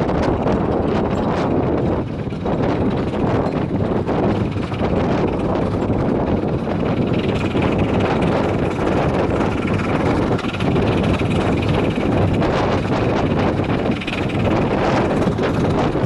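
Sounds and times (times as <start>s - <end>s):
train wheels rumbling on rail: 0.0s - 16.0s
wind buffeting the microphone: 0.0s - 16.0s.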